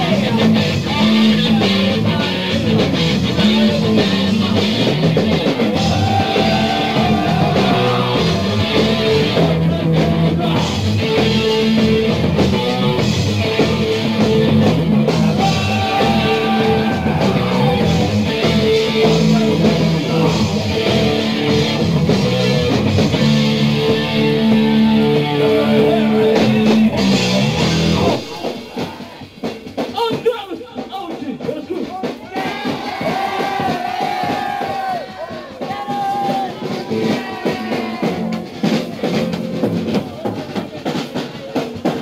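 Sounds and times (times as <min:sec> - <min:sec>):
heavy metal band playing live: 0:00.0 - 0:30.4, 0:32.0 - 0:40.5.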